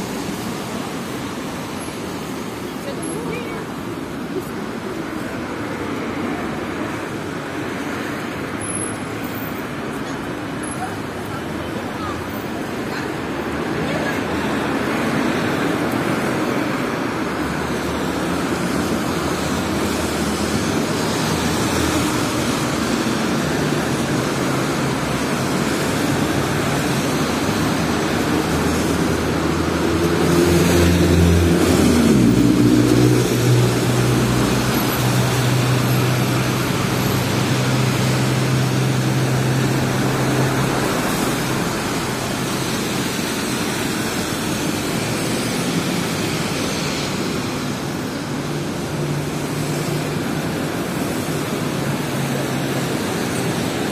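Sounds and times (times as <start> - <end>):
cars and tyres on wet road: 0.0 - 53.9
large vehicle engine: 0.0 - 53.9.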